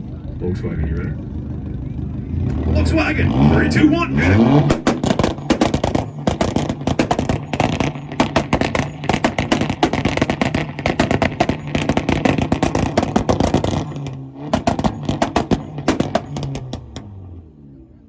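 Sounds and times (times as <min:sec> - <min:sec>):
car engine on rev limiter: 0:00.5 - 0:18.0
exhaust popping and crackling: 0:01.7 - 0:17.3.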